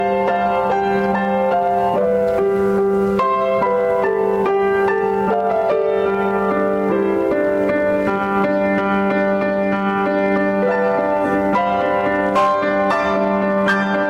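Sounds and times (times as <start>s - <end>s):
slow keyboard music: 0.0s - 14.0s.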